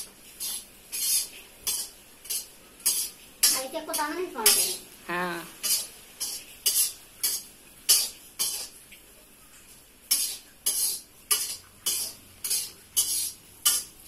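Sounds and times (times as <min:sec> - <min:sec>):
metal spatula scraping a steel pan: 0:00.0 - 0:04.8, 0:05.6 - 0:08.8, 0:10.1 - 0:14.0.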